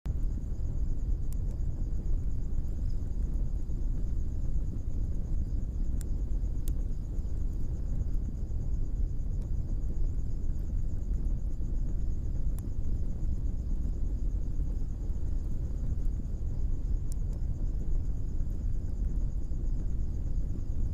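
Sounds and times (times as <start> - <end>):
forge fire rumbling: 0.1 - 20.9
sharp pops from fire: 1.1 - 20.9.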